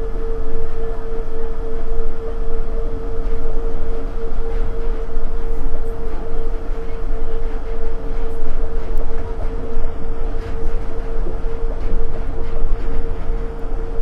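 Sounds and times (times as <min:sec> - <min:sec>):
constant whine: 0:00.0 - 0:14.0
train rumble and tyre noise: 0:00.0 - 0:14.0.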